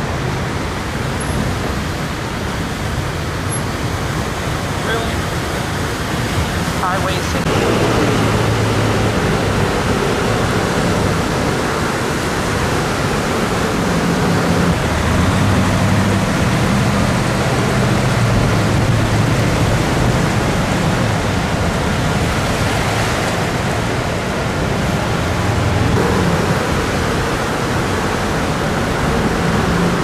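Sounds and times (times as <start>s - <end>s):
diesel engine humming low: 0.0s - 30.0s
floodwater rushing and sloshing: 0.0s - 30.0s.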